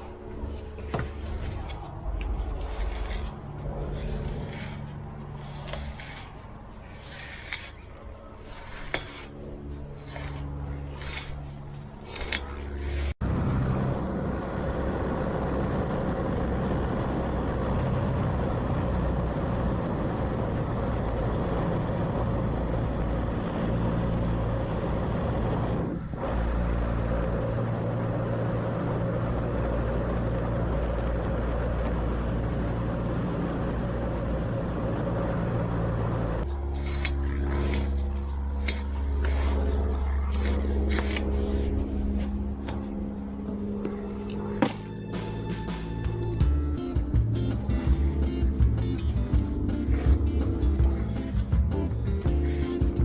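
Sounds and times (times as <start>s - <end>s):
airplane engine drone: 0.0s - 53.0s
rushing wind: 0.0s - 53.0s.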